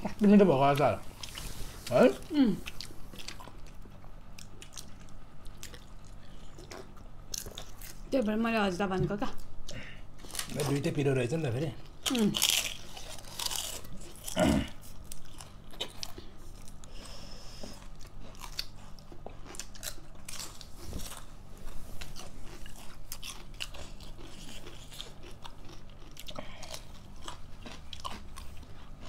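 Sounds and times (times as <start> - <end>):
person chewing and crunching: 0.0 - 8.1, 9.4 - 10.8, 11.7 - 29.0.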